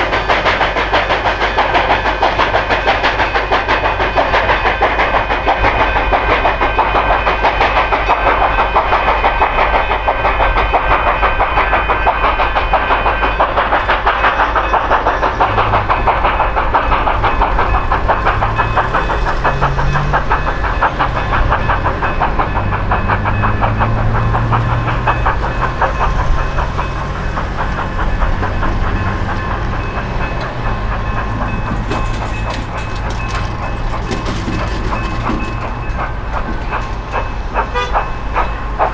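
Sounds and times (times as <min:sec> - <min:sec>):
steam train running: 0:00.0 - 0:38.9.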